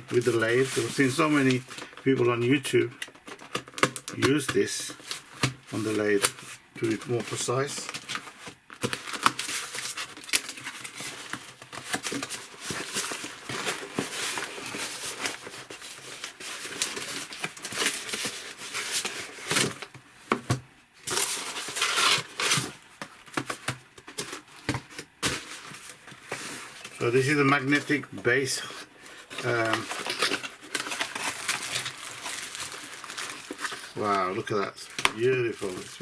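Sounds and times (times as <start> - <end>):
packaging crinkling and rustling: 0.0 - 36.0.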